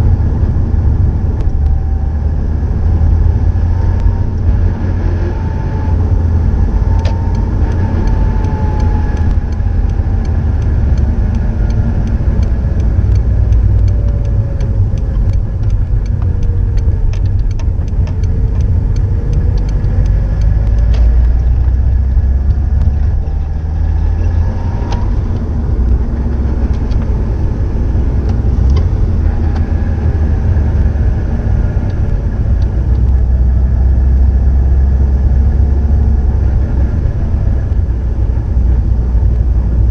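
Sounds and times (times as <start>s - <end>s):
car engine deep rumble: 0.0s - 39.9s.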